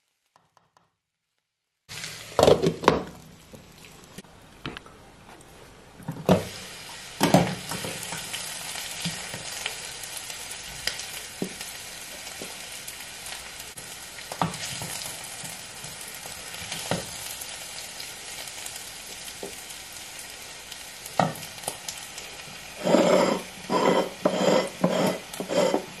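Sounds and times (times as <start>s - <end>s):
cabbage sizzling in a hot pan: 1.9s - 4.2s, 6.3s - 26.0s.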